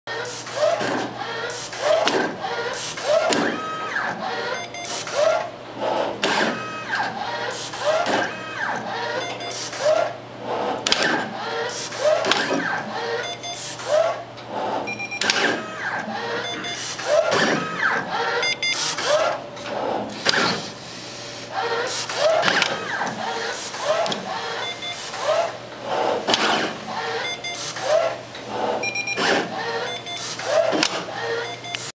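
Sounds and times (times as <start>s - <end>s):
machine motors whining and clacking: 0.1s - 31.9s.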